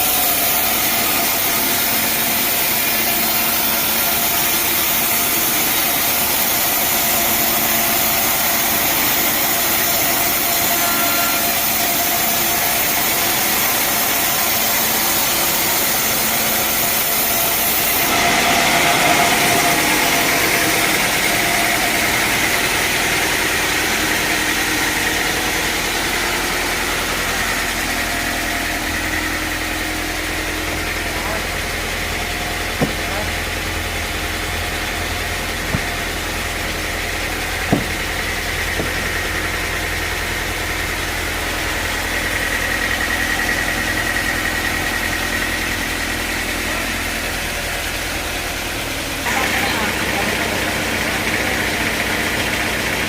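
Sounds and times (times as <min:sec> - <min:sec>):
sawmill engine drone: 0:00.0 - 0:53.0.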